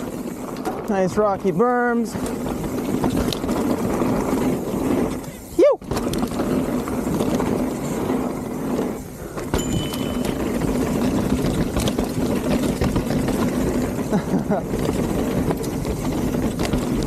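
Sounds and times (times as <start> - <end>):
bike rattles and clicks: 0.0 - 17.0
tyre rumble on dirt: 0.0 - 17.0.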